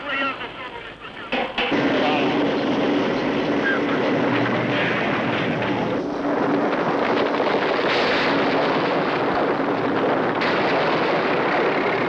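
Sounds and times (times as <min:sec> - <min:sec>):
heavy machinery rumbling: 0:01.3 - 0:12.0.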